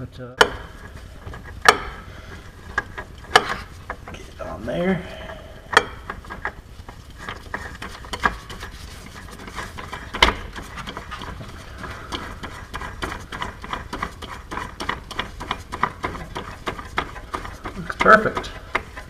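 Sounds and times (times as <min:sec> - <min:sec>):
oil filter scraping and clicking: 0:00.5 - 0:04.5, 0:05.3 - 0:19.0.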